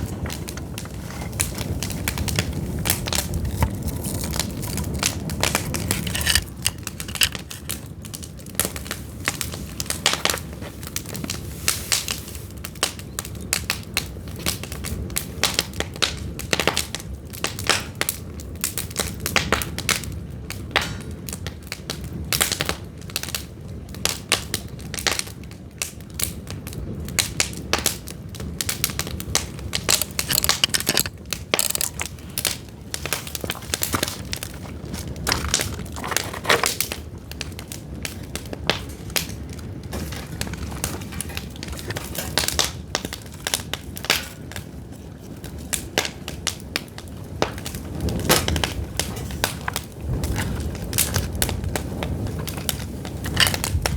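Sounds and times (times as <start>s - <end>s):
firewood crackling and popping: 0.0s - 53.9s
low fire rumble: 0.0s - 53.9s.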